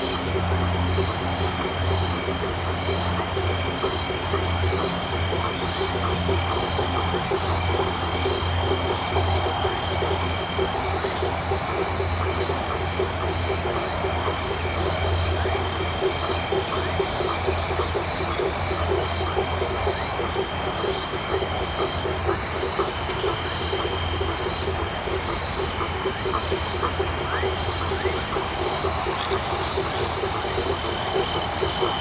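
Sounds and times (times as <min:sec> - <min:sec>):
crickets trilling: 0:00.0 - 0:32.0
frogs croaking: 0:00.0 - 0:32.0
low steady drone: 0:00.0 - 0:32.0.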